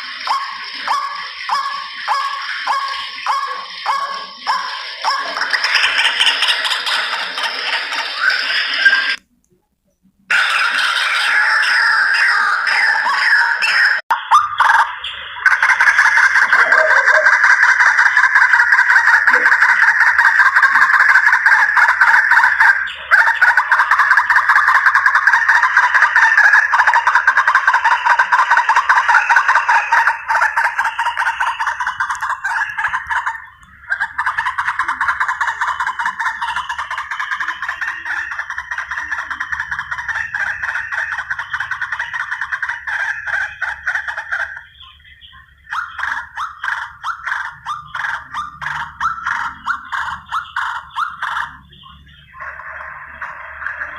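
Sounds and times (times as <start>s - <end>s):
waterhen rapid harsh chatter: 0.0s - 9.2s, 10.3s - 53.9s.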